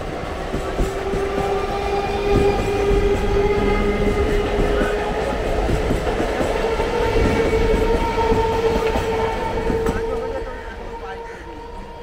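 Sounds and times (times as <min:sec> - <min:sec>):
electric train whine: 0:00.0 - 0:12.0
low train rumble: 0:00.0 - 0:12.0.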